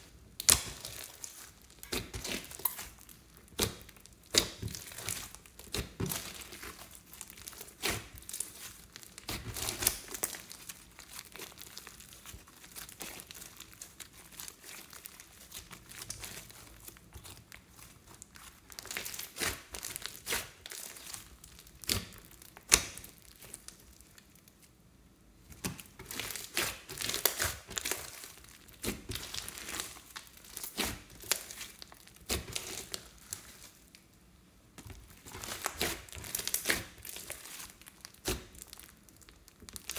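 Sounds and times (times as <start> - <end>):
slime crackling and popping: 0.0 - 24.7, 25.5 - 39.9.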